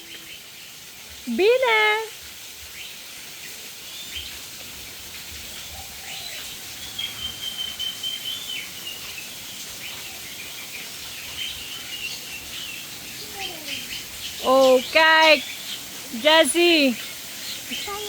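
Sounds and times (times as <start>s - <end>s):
birds chirping: 0.0s - 18.0s
faint steady hiss: 0.0s - 18.0s.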